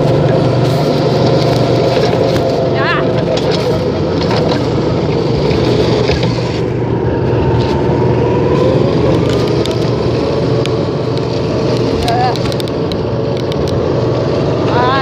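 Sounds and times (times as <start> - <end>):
motor vehicle running: 0.0 - 15.0.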